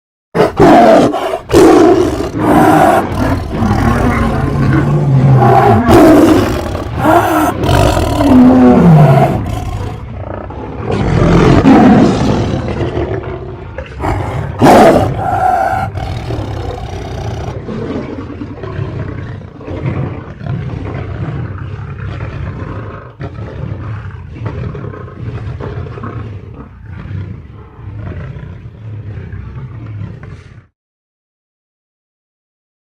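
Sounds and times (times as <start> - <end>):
big cats roaring and snarling: 0.4 - 30.7
low growling: 0.4 - 30.7.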